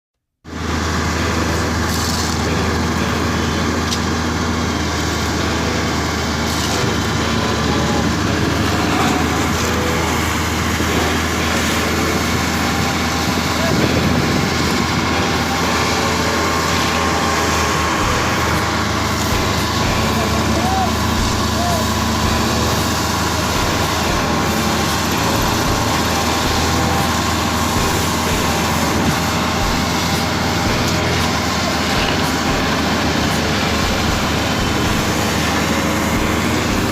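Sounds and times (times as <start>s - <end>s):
diesel machine humming: 0.5s - 36.9s.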